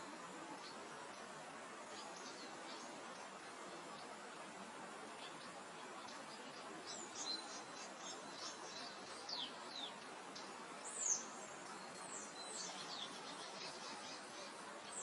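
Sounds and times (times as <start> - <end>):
small birds chirping: 0.0 - 15.0
soft wind: 0.0 - 15.0.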